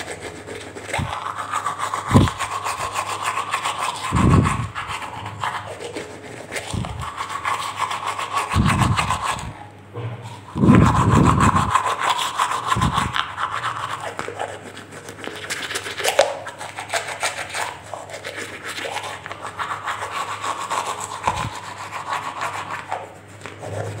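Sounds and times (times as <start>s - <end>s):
toothbrush scrubbing teeth: 0.0s - 9.7s, 10.3s - 24.0s.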